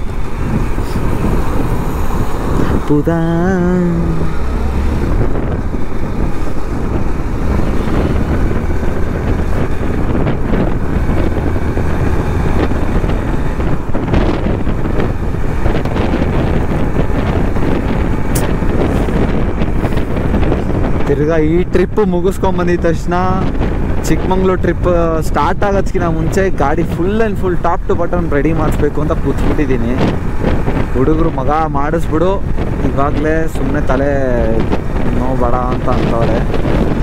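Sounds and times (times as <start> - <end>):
motorcycle engine drone: 0.0 - 37.0
wind rushing over microphone: 0.0 - 37.0.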